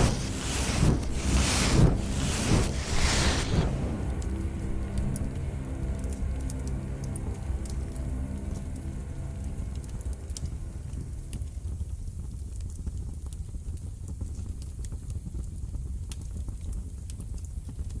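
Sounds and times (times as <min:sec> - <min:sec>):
music: 0:00.0 - 0:17.9
fire crackling and rumbling: 0:00.0 - 0:18.0.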